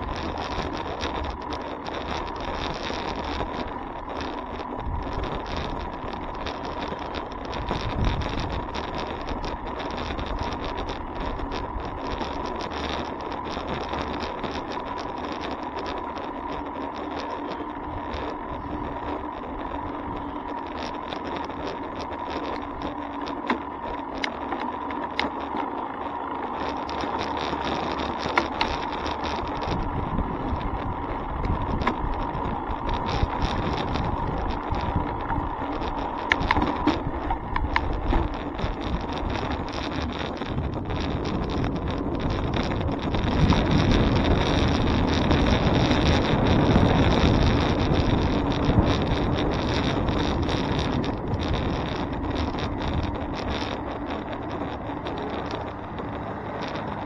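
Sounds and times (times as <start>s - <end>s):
bicycle clicks and rattles: 0.0s - 57.0s
tyres on road: 0.0s - 57.0s
wind on microphone: 0.0s - 57.0s.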